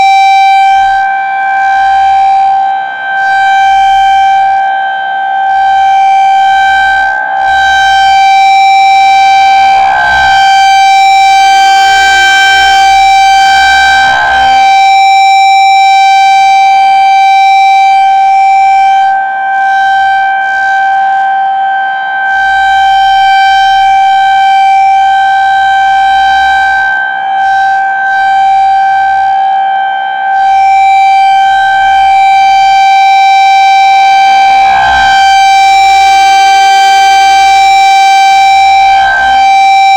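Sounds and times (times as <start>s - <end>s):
high-pitched warning siren: 0.0s - 39.9s.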